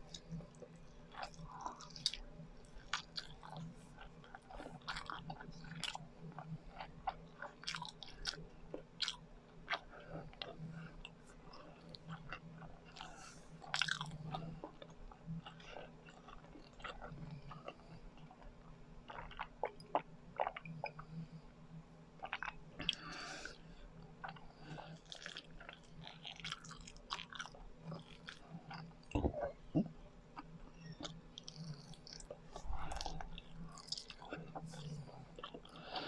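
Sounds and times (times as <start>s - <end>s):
close chewing with sticky smacks: 0.0s - 21.2s, 22.2s - 36.0s.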